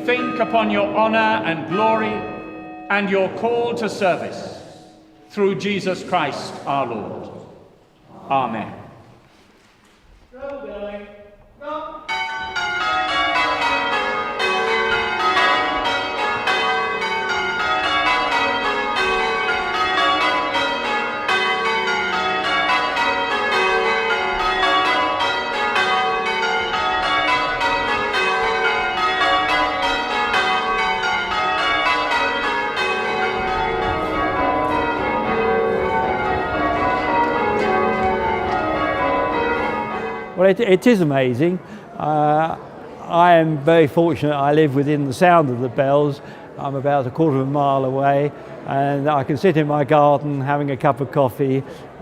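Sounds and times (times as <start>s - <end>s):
church tower bells ringing: 0.0s - 8.8s, 12.0s - 52.0s.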